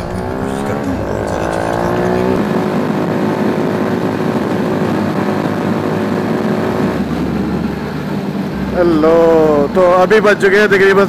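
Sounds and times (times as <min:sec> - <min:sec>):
motorcycle engine revving: 0:00.0 - 0:10.7.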